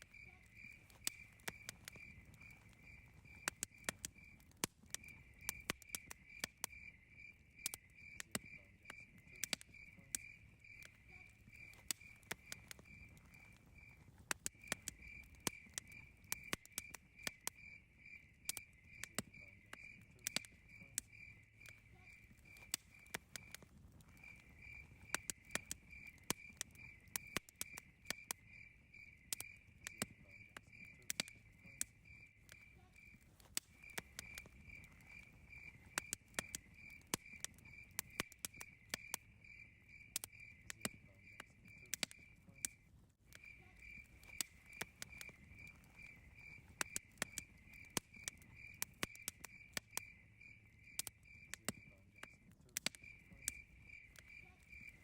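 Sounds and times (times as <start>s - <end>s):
campfire crackling and popping: 0.0s - 55.0s
cricket chirping: 0.0s - 55.0s.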